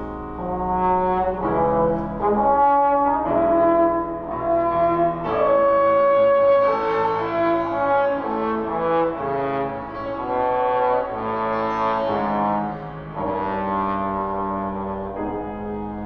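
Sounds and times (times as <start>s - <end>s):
piano accompaniment: 0.0s - 16.0s
trombone playing slow melody: 0.0s - 16.0s.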